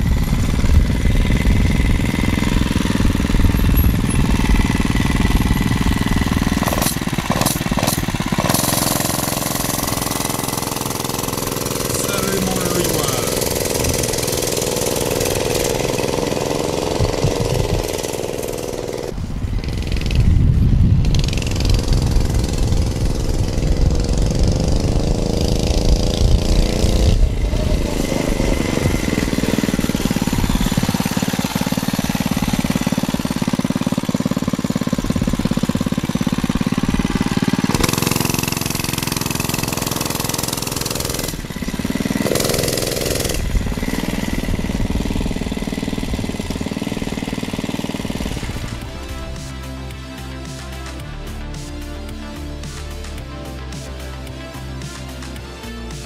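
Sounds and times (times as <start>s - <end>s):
small gas engine revving: 0.0s - 51.0s.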